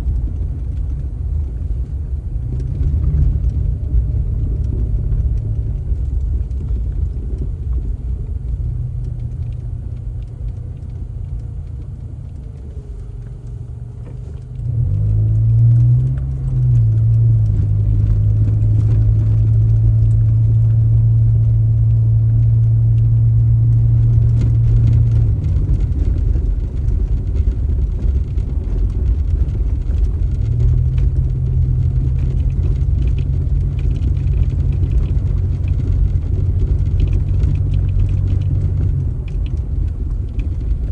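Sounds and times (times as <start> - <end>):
car engine hum: 0.0 - 40.9.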